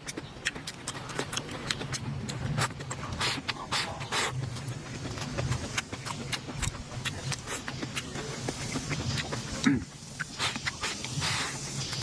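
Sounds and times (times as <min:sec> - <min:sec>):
wet chewing sounds: 0:00.0 - 0:12.0.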